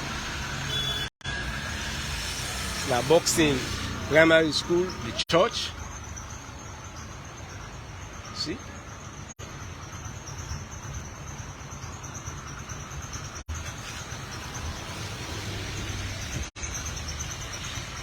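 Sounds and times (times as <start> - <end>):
low rumble of traffic: 0.0 - 18.0
high insect-like chirring: 1.8 - 18.0.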